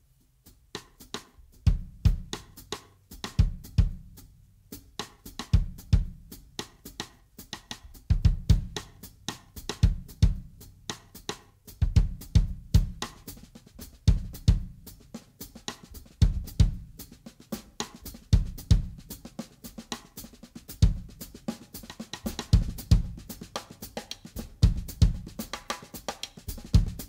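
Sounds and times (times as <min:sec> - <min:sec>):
drum kit groove: 0:00.0 - 0:27.0.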